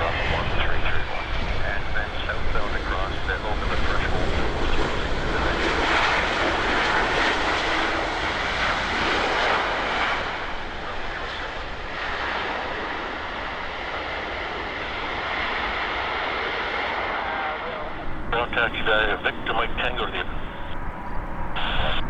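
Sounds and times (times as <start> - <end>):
jet airliner engines passing: 0.0 - 22.0.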